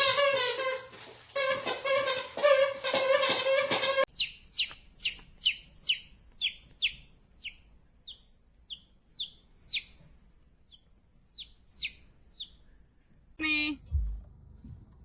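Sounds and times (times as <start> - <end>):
bird chirping: 1.9 - 14.0.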